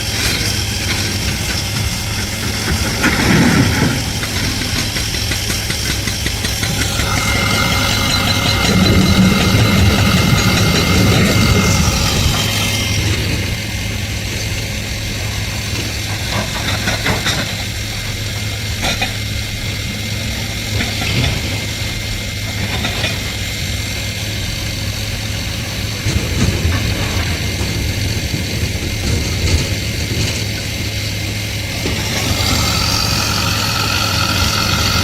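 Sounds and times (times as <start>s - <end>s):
heavy diesel machinery rumbling: 0.0s - 35.0s.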